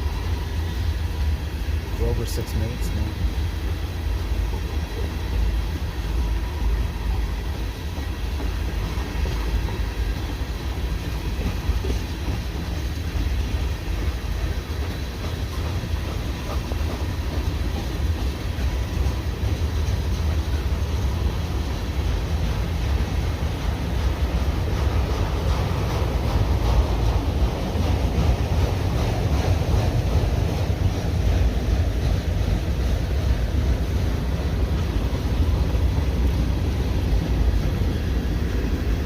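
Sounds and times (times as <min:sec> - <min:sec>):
freight train wheels rumbling: 0:00.0 - 0:39.0.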